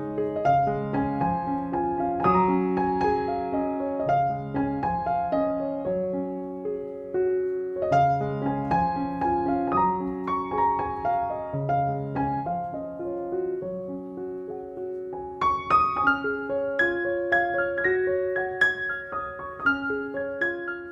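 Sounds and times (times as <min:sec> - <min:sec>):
gentle piano melody: 0:00.0 - 0:20.9.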